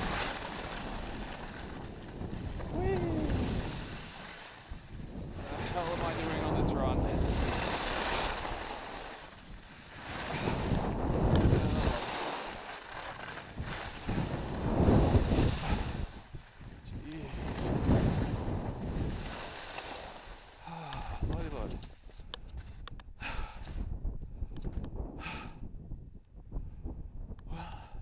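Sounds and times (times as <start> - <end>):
skis scraping over packed snow: 0.0 - 22.8
wind buffeting microphone: 0.0 - 28.0.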